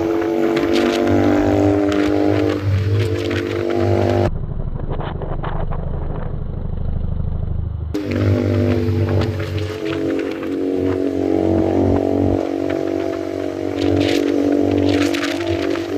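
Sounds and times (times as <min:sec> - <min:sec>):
motorcycle exhaust pulsing: 0:00.0 - 0:15.9
steady droning tone: 0:00.0 - 0:15.9.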